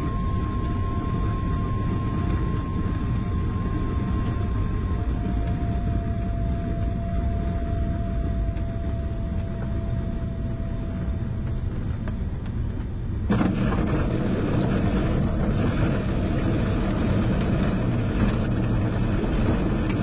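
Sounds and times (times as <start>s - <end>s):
idling aircraft engine rumble: 0.0s - 20.0s.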